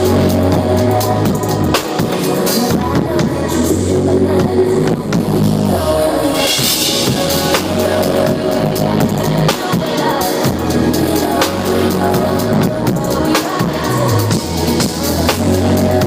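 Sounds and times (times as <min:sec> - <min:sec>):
drum kit playing: 0:00.0 - 0:03.7, 0:06.2 - 0:16.0
backing music with heavy bass: 0:00.0 - 0:16.0.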